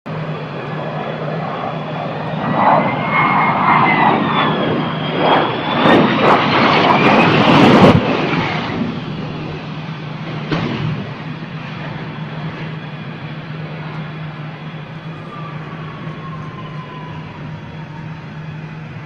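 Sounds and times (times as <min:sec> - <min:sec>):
jet engine whine: 0:00.1 - 0:19.0.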